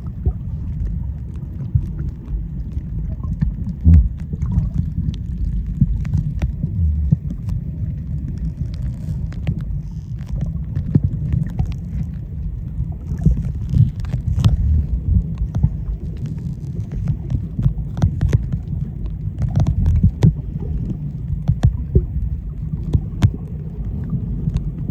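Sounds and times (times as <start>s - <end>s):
muffled underwater rumble: 0.0s - 24.9s
sharp underwater clicks: 0.0s - 24.9s.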